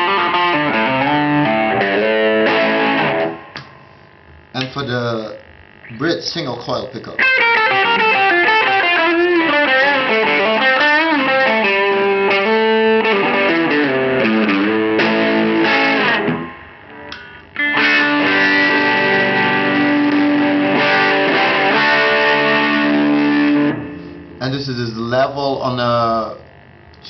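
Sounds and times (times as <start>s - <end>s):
overdriven electric guitar: 0.0s - 4.8s, 7.2s - 24.4s.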